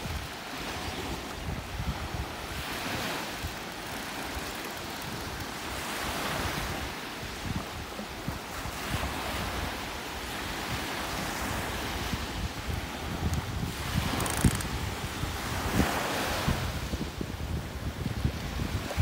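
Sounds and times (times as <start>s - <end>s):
waves washing up a beach: 0.0s - 19.0s
wind buffeting microphone: 0.0s - 19.0s.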